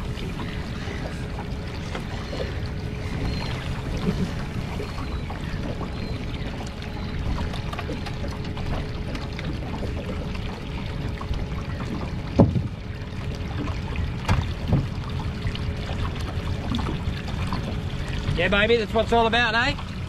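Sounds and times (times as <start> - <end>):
knocks and thumps on boat: 0.0 - 20.0
water sloshing against boat hull: 0.0 - 20.0.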